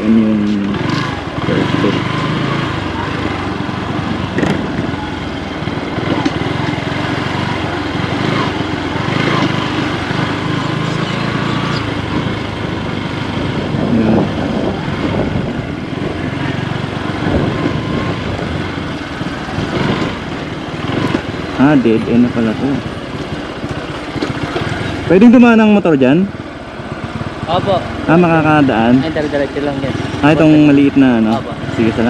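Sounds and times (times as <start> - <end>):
small motorcycle engine running: 0.0 - 32.0.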